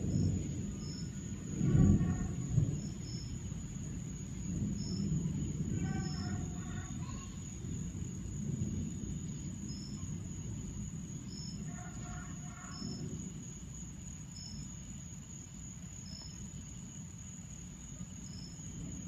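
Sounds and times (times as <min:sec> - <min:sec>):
high insect drone: 0:00.0 - 0:19.0
insect chirps: 0:00.0 - 0:19.0
low rumble of thunder: 0:00.0 - 0:19.0.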